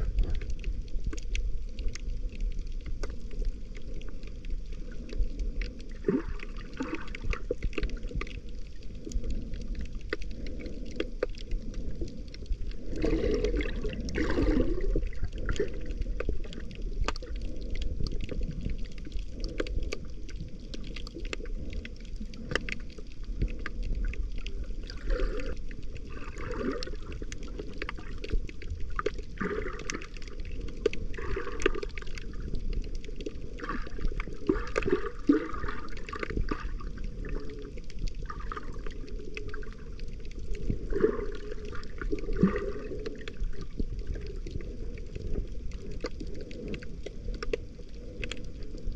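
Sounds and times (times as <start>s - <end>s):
low underwater rumble: 0.0s - 48.9s
muffled underwater gurgling: 0.0s - 48.9s
water surges: 0.0s - 48.9s.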